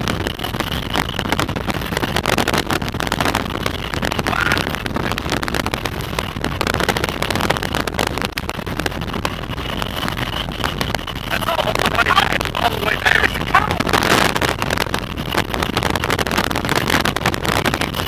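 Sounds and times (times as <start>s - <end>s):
vehicle road and wind noise: 0.0s - 18.0s
wind buffeting microphone: 0.0s - 18.0s.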